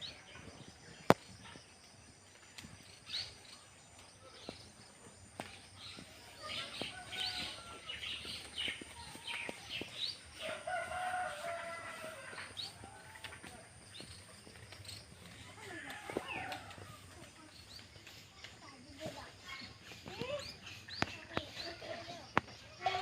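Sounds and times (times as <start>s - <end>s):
nestling birds cheeping: 0.0s - 18.6s.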